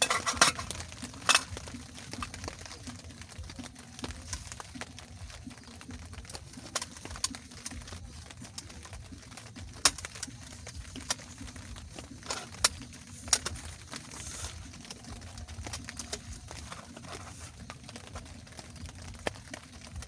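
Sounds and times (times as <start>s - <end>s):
raindrops tapping a surface: 0.0s - 20.0s.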